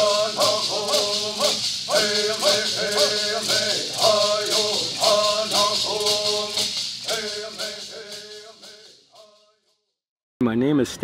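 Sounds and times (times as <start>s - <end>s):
hand-held rattles shaking: 0.0s - 9.4s
men singing in unison: 0.0s - 9.6s.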